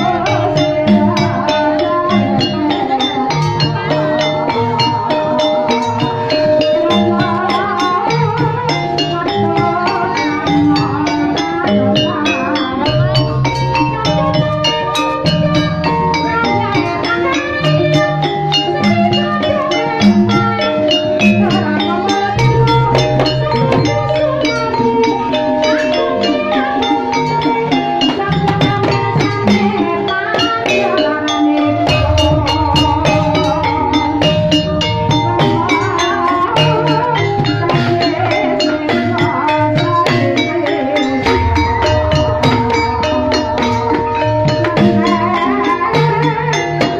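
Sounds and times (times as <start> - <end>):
metallophones and gongs ringing: 0.0 - 46.9
tuned percussion and drums ensemble: 0.0 - 46.9.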